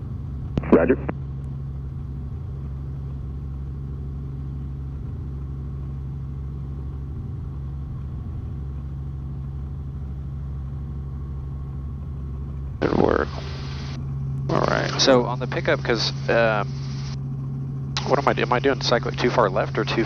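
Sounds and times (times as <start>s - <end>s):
helicopter hovering drone: 0.0s - 20.0s.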